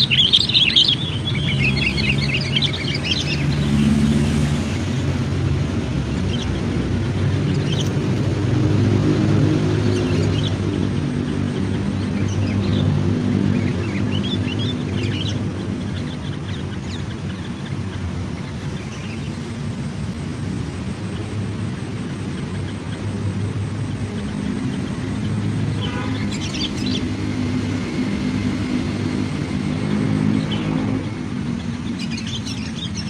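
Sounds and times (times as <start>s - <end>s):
low engine drone: 0.0s - 33.0s
small birds chirping: 0.0s - 33.0s.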